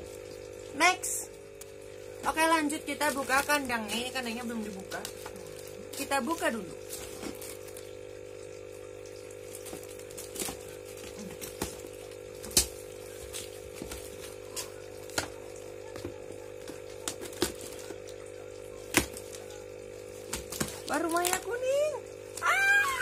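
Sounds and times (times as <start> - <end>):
aquarium air pump hum: 0.0 - 23.0.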